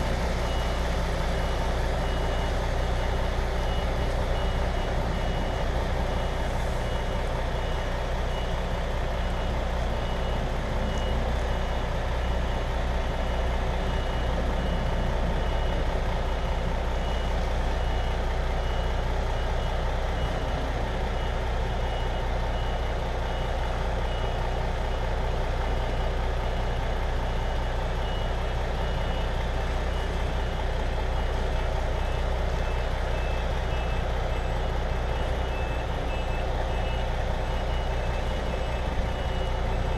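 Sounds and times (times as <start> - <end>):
diesel engine hum: 0.0 - 39.9
reversing alarm beeping: 0.1 - 39.9.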